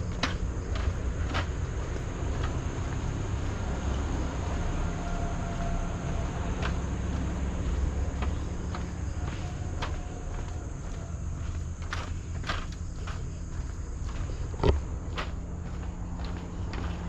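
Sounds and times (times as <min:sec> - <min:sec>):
footsteps on a trail: 0:00.0 - 0:17.0.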